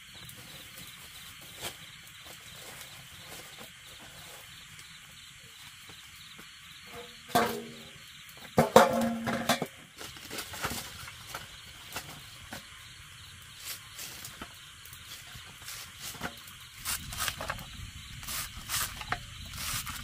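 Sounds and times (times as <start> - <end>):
night insects chirring: 0.0 - 20.0
wood fire crackling and popping: 0.0 - 20.0.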